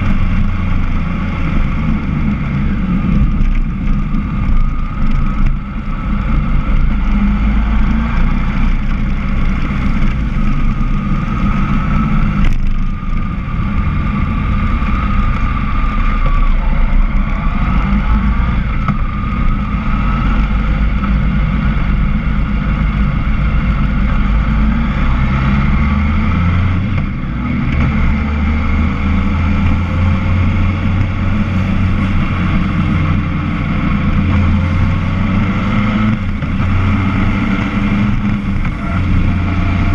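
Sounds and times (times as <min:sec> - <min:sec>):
motorcycle engine rumble: 0:00.0 - 0:39.9
wind on camera: 0:00.0 - 0:39.9.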